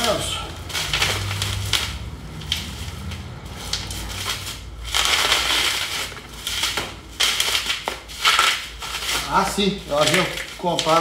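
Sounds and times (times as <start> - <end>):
bubble wrap crinkling and rustling: 0.0 - 11.0.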